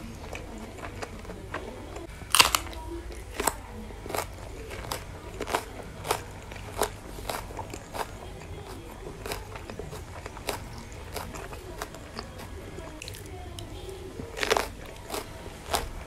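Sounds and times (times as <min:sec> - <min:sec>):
chewing: 0:00.0 - 0:16.0
crunching bites of chili: 0:00.0 - 0:16.0.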